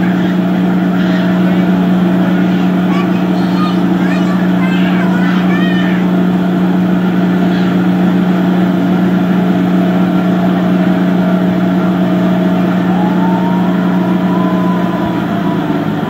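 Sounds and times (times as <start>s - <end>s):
blower humming: 0.0s - 16.0s.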